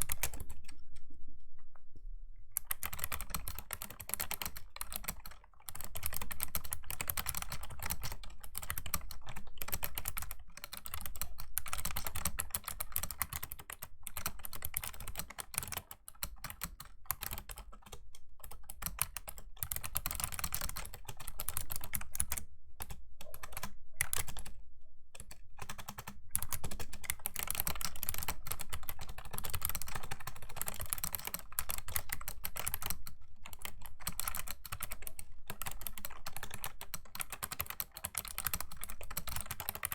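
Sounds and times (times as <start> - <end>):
fast keyboard typing: 0.0 - 0.8, 2.6 - 24.6, 25.2 - 39.9.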